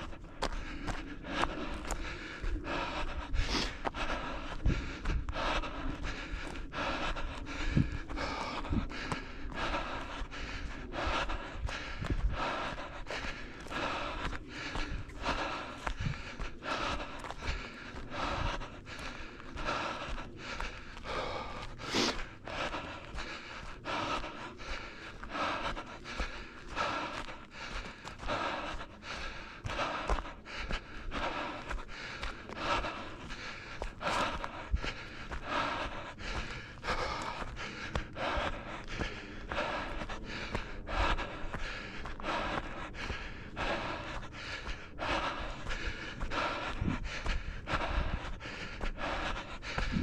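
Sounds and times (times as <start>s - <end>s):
runner breathing hard: 0.0s - 50.0s.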